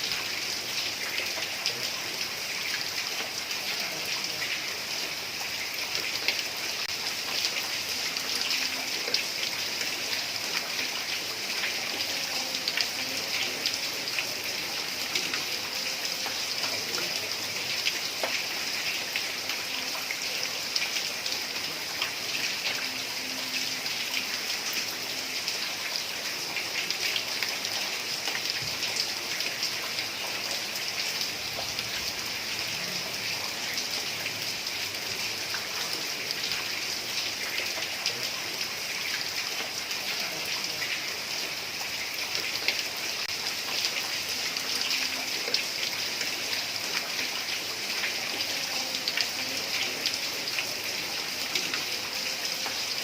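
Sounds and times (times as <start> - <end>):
heavy rain on a tiled roof: 0.0 - 53.0.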